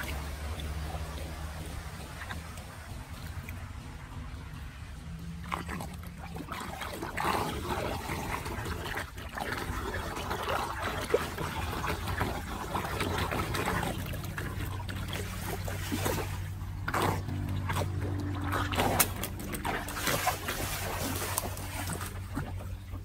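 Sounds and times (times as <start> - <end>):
water gurgling down drain: 0.0 - 23.0.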